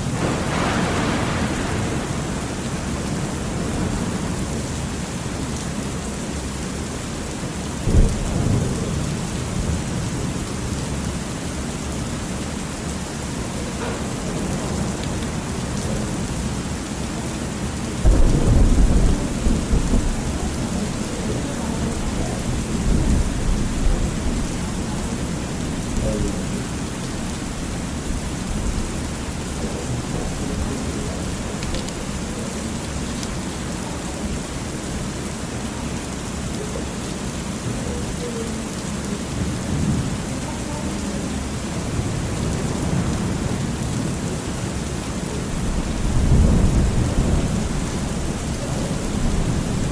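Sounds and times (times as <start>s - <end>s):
thunder rumbling: 0.0s - 6.7s, 7.5s - 35.0s, 41.5s - 49.9s
steady rain: 0.0s - 49.9s.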